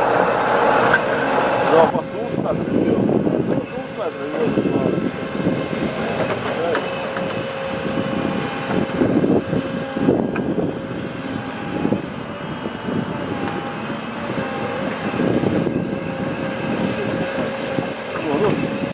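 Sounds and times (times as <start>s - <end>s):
heavy diesel machinery droning: 0.0s - 18.9s.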